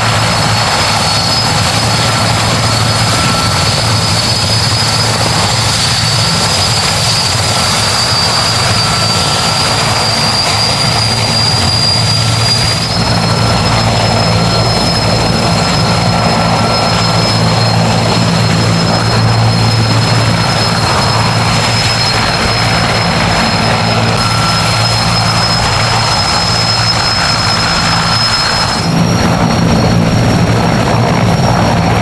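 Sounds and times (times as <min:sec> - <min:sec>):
helicopter rotor roar: 0:00.0 - 0:32.0
helicopter turbine whine: 0:00.0 - 0:32.0.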